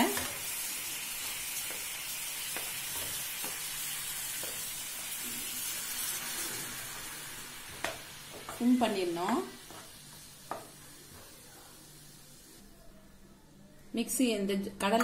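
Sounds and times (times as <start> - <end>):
syrup sizzling and bubbling in pan: 0.0 - 12.7.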